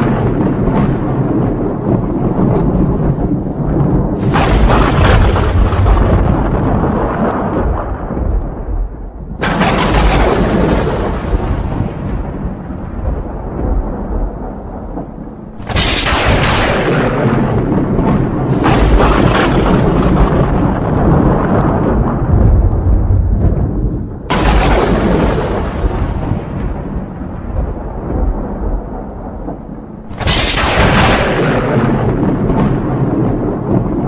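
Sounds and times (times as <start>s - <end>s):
thunder cracks and rumble: 0.0s - 34.0s.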